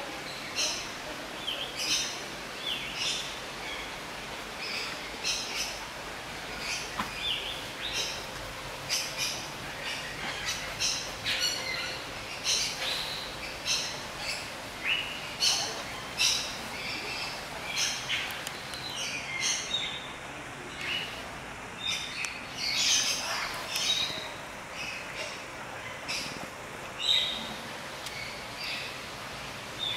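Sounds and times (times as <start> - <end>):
birds chirping: 0.0 - 29.9
steady background hiss: 0.0 - 29.9.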